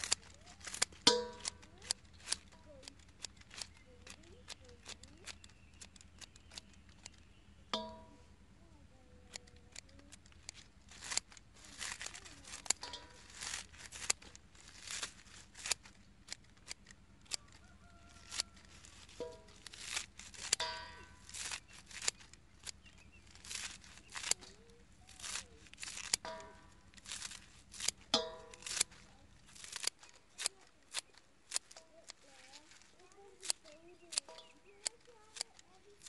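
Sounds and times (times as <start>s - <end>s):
scissors snipping plants: 0.0s - 8.2s, 9.0s - 36.0s.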